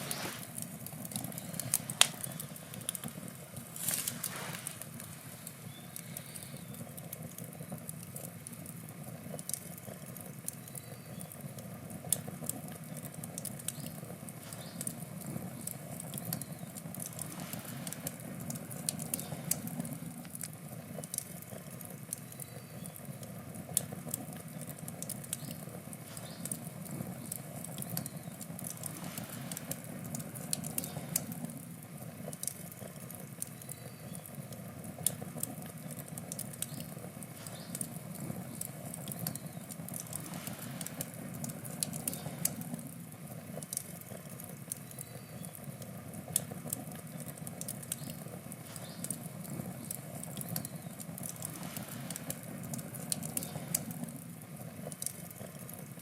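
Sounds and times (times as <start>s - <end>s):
burning wood crackling and popping: 0.0s - 56.0s
flames rushing: 0.0s - 56.0s.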